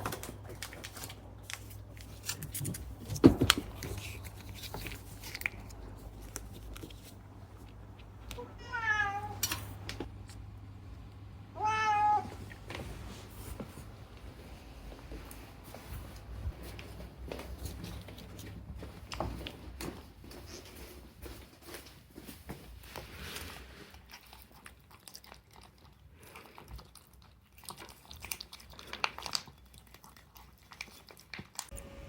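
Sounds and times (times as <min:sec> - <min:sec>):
small clicks and crunching: 0:00.0 - 0:08.4, 0:09.4 - 0:10.4, 0:15.2 - 0:31.8.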